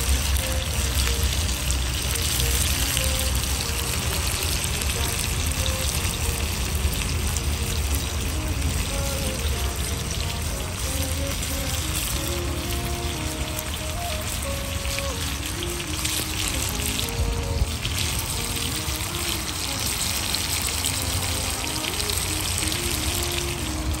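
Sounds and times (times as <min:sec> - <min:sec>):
meat sizzling on hot plate: 0:00.0 - 0:24.0.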